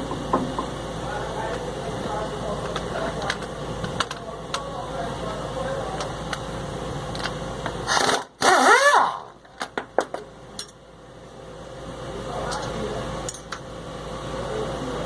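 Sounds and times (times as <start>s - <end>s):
steady mechanical noise: 0.0s - 15.0s.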